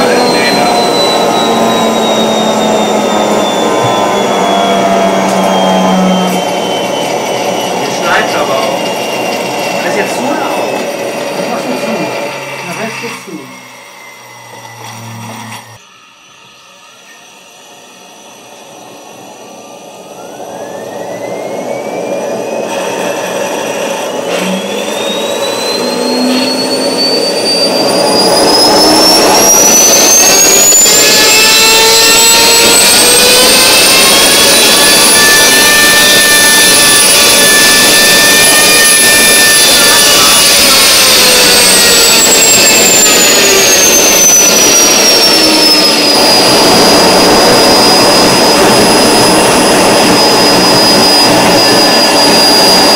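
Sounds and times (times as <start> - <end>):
rushing air noise: 0.0 - 15.8, 18.2 - 52.9
jet engine whine: 0.0 - 52.9.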